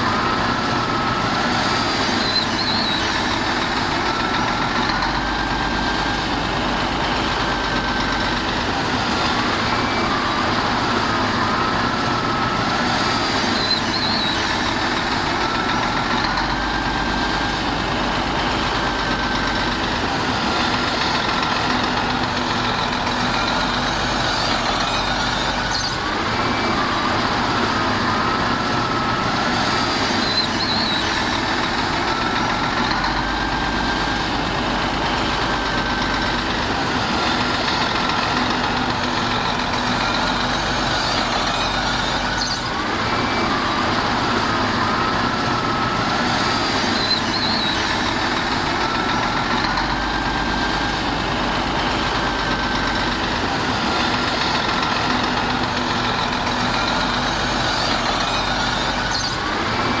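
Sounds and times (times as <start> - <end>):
heavy diesel machinery droning: 0.0 - 60.0.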